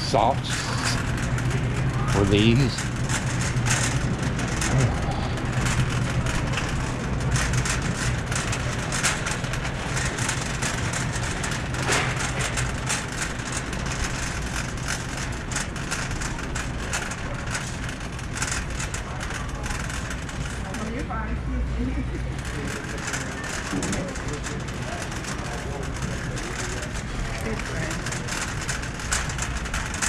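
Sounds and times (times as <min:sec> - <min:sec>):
steady low hum: 0:00.0 - 0:30.0
light clicks and rattles: 0:00.1 - 0:21.1, 0:22.2 - 0:30.0.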